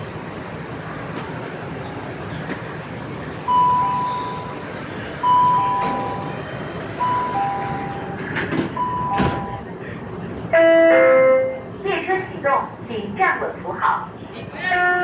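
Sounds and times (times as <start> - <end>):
train carriage running hum: 0.0 - 15.0.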